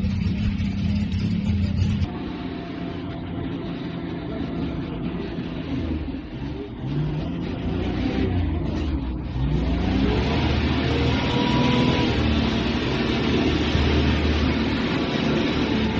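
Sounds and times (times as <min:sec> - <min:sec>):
engine revving: 0:00.0 - 0:15.9.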